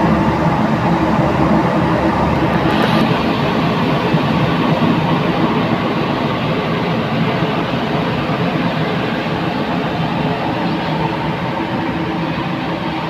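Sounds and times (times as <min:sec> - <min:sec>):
ferry engines droning: 0:00.0 - 0:13.0
rushing wind: 0:00.0 - 0:13.0
sea noise: 0:00.0 - 0:13.0.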